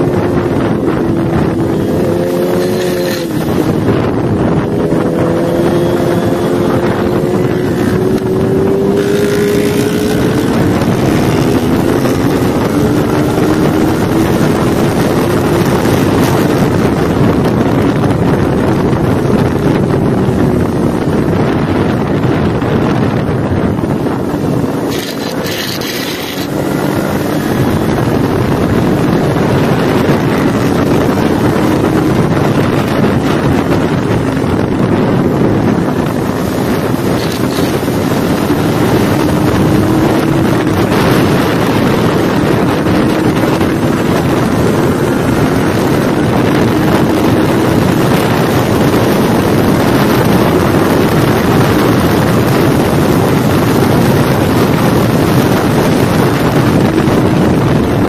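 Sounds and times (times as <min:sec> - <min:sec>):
motorcycle engine running hard: 0:00.0 - 0:58.0
wind rush on microphone: 0:00.0 - 0:58.0.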